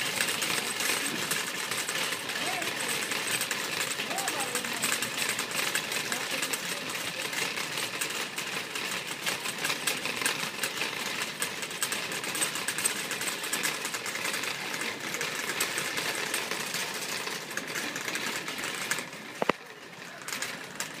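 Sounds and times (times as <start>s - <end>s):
wire shopping cart rattling: 0.0s - 21.0s.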